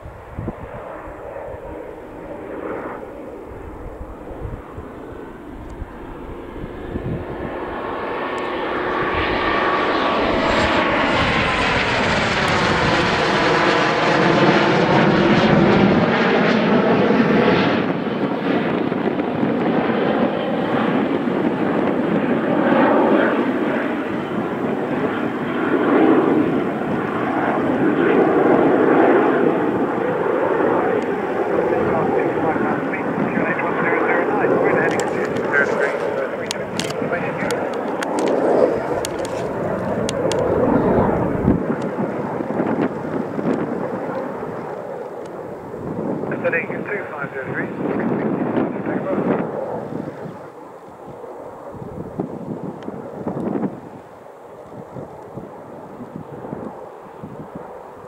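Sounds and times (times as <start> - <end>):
jet aircraft roar: 0.0 - 58.0.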